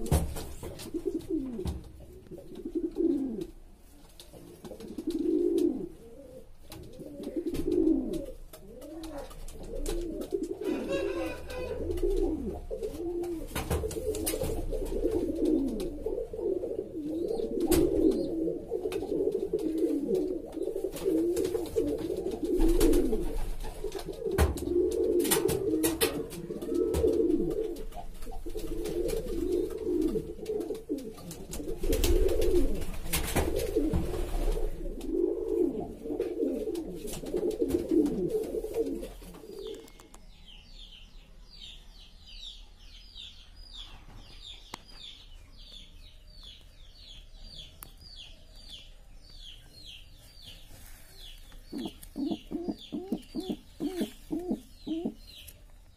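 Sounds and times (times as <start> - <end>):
pigeons cooing: 0.0 - 3.6, 4.4 - 40.0, 49.4 - 55.6.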